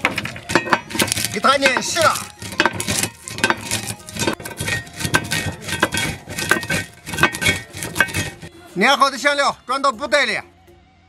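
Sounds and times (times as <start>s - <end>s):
metal roller mill crushing spices: 0.0s - 9.4s.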